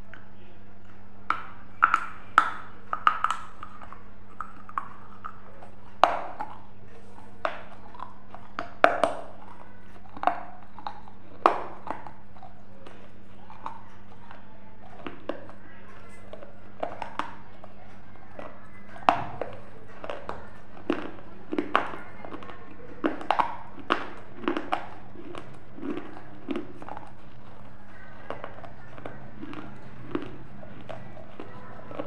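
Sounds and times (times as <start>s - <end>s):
low electrical hum: 0.0s - 32.0s
crisp food crunching: 0.8s - 32.0s.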